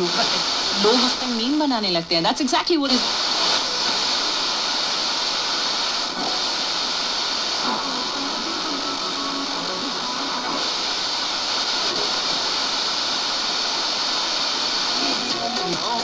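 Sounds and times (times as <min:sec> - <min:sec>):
faint radio station: 0:00.0 - 0:16.0
radio static hissing: 0:00.0 - 0:16.0.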